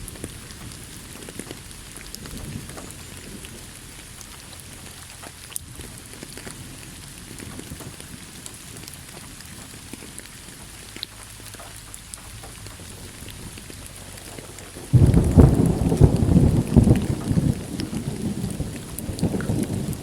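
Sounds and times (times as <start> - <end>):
steady rain falling: 0.0 - 20.0
thunder clap and rumble: 0.0 - 20.0.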